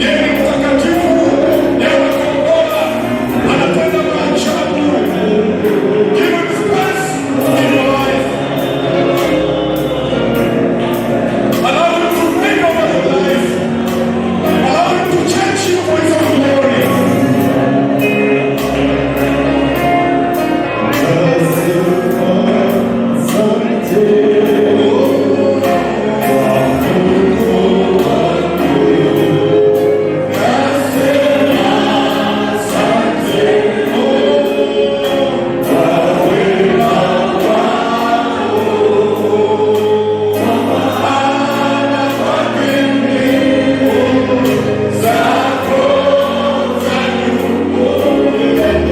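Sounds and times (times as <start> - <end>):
choir singing gospel: 0.0 - 48.9
instrumental backing with bass: 0.0 - 48.9.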